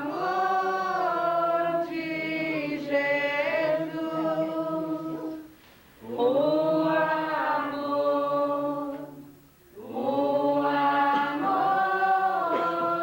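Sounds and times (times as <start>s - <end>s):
people singing a hymn: 0.0s - 13.0s.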